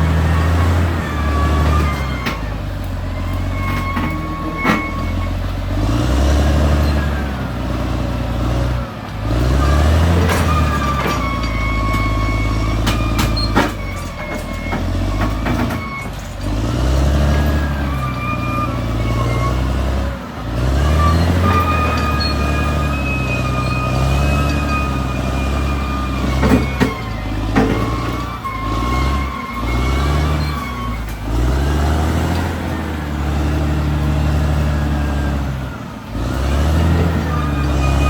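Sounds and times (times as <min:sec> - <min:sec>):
bulldozer diesel engine labouring: 0:00.0 - 0:38.0.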